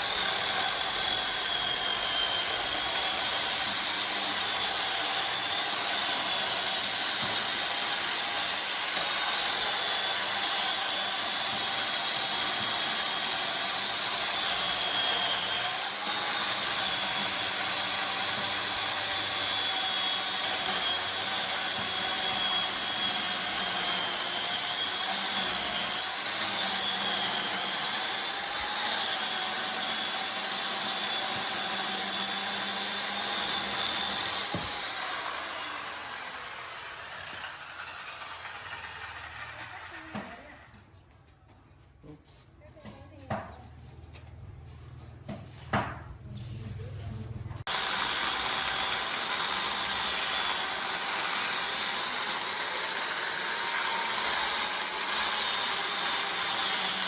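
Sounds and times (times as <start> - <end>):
power tool motor whining: 0.0 - 40.6, 47.7 - 57.0.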